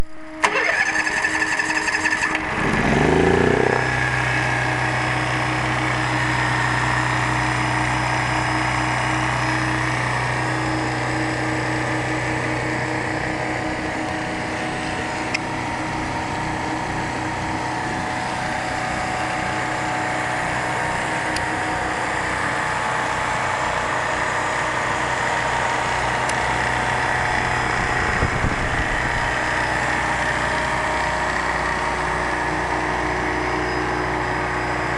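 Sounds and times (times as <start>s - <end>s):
generator engine cranking and running: 0.0s - 34.9s.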